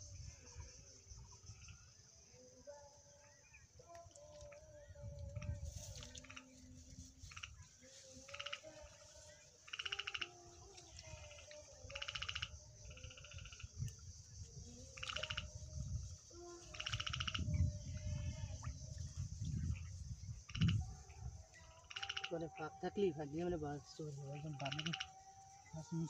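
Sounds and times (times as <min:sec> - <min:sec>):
frogs trilling: 0:00.0 - 0:26.0
high insect hum: 0:00.0 - 0:26.0.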